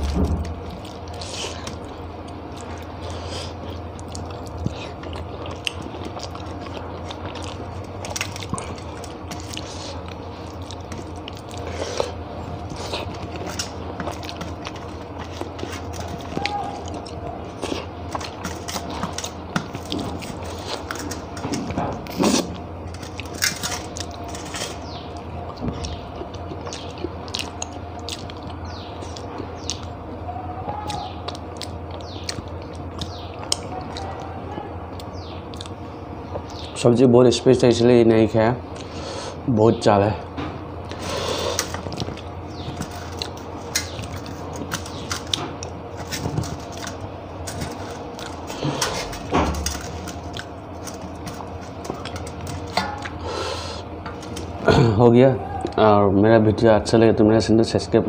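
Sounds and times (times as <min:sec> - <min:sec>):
chewing and lip smacks: 0:00.4 - 0:30.0, 0:30.7 - 0:34.3, 0:34.9 - 0:36.8, 0:40.8 - 0:53.3.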